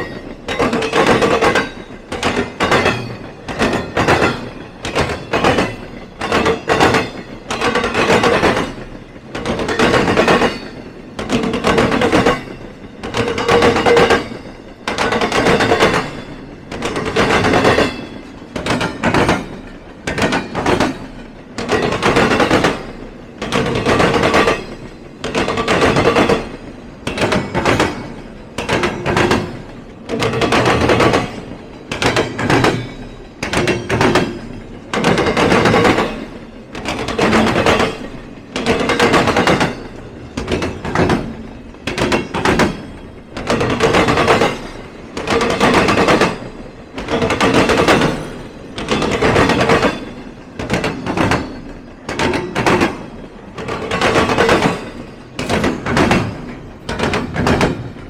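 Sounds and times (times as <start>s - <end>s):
train wheels clattering over crossing: 0.0s - 58.0s.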